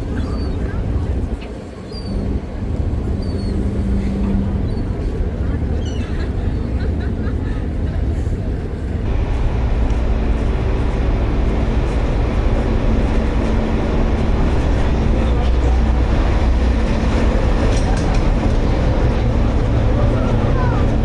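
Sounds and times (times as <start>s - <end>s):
vehicle engine rumbling: 2.2s - 21.0s.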